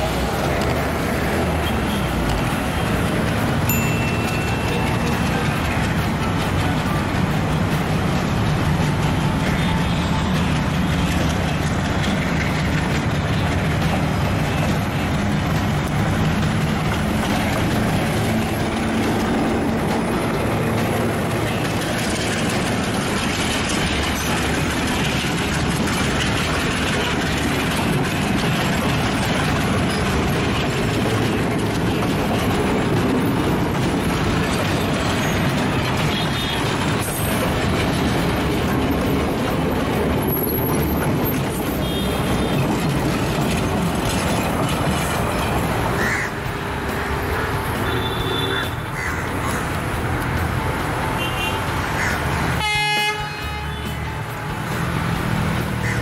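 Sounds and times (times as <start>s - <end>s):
passenger train passing: 0.0s - 56.0s.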